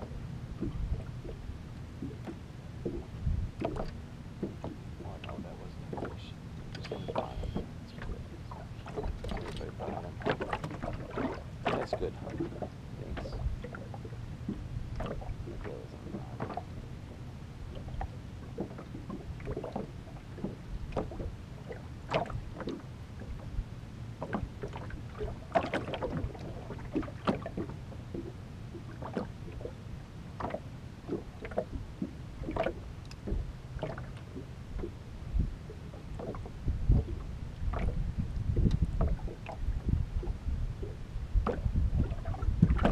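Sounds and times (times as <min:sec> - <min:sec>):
steady low hum: 0:00.0 - 0:42.9
waves slapping against metal boat: 0:00.0 - 0:42.9.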